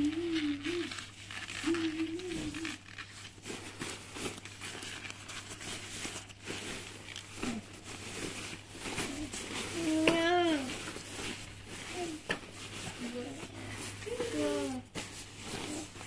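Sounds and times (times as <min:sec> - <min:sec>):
nylon sleeping bag rustling: 0:00.0 - 0:16.0.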